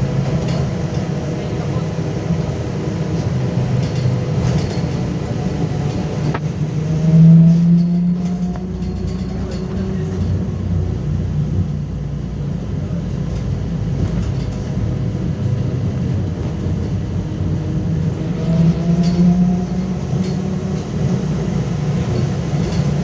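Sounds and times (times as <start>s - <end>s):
trolleybus low rumble: 0.0s - 23.0s.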